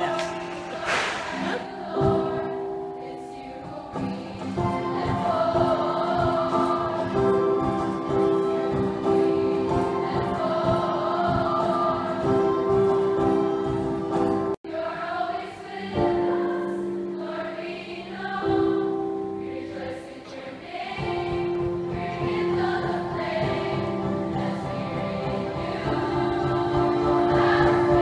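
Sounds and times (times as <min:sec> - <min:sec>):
choir singing: 0:00.0 - 0:28.0.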